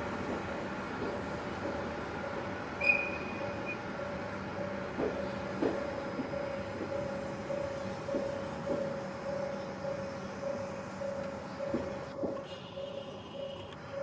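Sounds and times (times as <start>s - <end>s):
steady train hum: 0.0s - 14.0s
train wheels clacking over joints: 0.2s - 12.5s.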